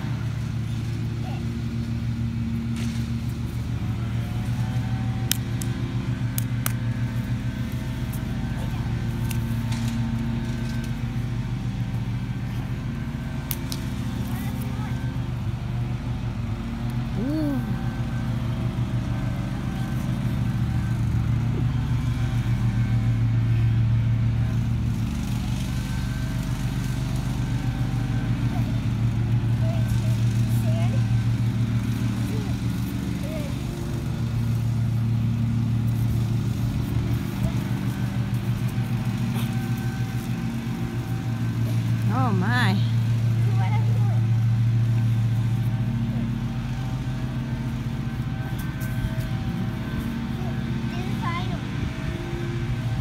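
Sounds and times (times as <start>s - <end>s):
vehicle engine idling: 0.0s - 53.0s.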